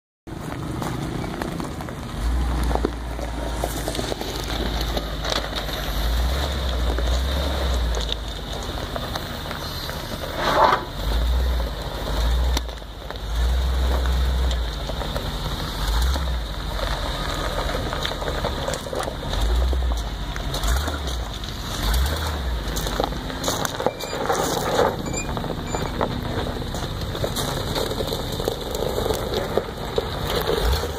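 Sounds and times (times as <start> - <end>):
pickup truck engine running: 0.3 - 30.9
tyres crunching on gravel: 0.3 - 30.9.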